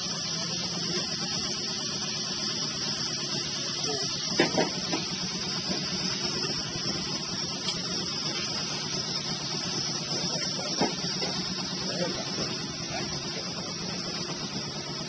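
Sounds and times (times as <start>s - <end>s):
motor running steadily: 0.0s - 15.0s.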